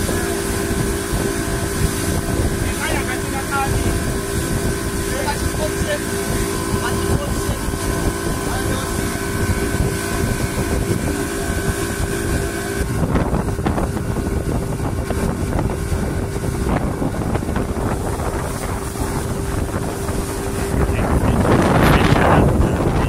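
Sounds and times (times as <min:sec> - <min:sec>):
outboard engine running: 0:00.0 - 0:23.0
rushing wake water: 0:00.0 - 0:23.0
wind buffeting microphone: 0:00.0 - 0:23.0.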